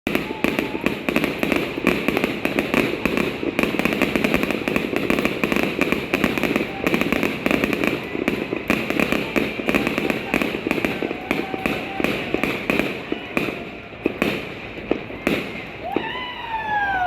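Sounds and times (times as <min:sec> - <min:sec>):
fireworks popping and crackling: 0:00.0 - 0:17.0.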